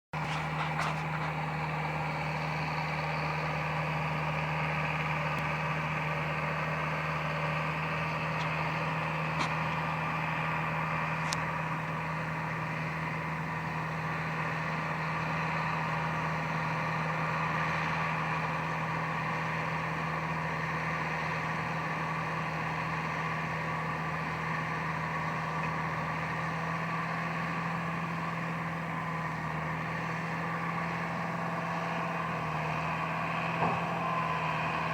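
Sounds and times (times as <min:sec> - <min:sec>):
tractor and baler running: 0:00.1 - 0:34.9.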